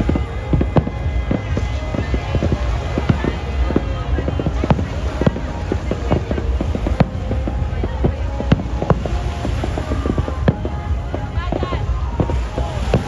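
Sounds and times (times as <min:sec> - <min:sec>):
crowd voices: 0:00.0 - 0:13.0
fireworks bangs and pops: 0:00.0 - 0:13.0.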